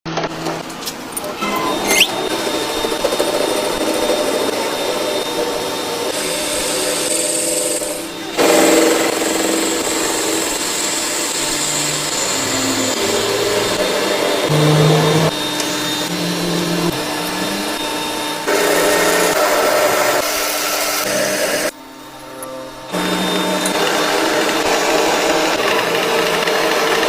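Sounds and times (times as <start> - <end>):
power tool whirring: 0.4 - 27.0.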